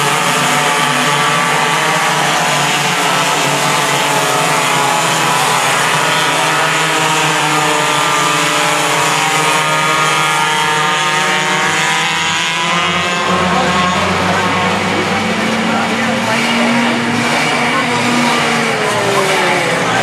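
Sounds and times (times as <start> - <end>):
kart engines buzzing: 0.0 - 20.0.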